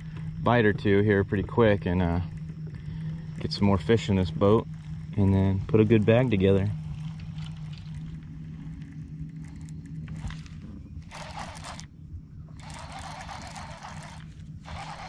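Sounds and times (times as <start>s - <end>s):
electric motor humming: 0.0s - 15.0s.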